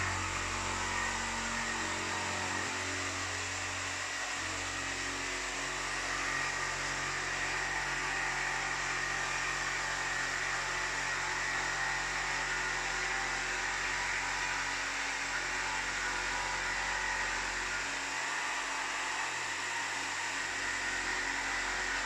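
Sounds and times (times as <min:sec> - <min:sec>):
motor or fan whirring: 0:00.0 - 0:22.0.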